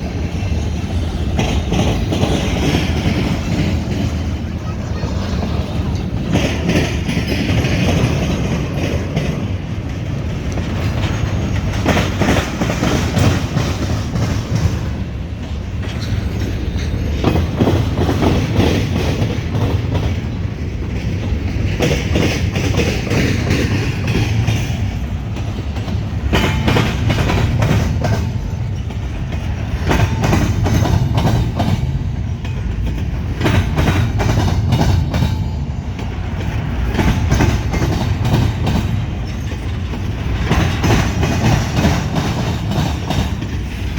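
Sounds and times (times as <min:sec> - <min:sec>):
train rumbling past: 0:00.0 - 0:43.9
wheels clacking over track: 0:00.0 - 0:43.9.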